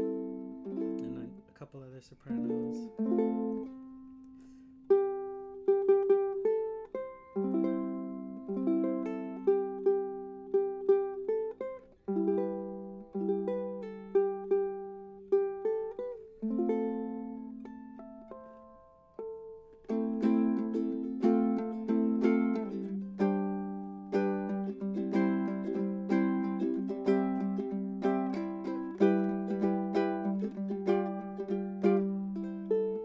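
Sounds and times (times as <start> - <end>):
ukulele playing: 0.0 - 33.0.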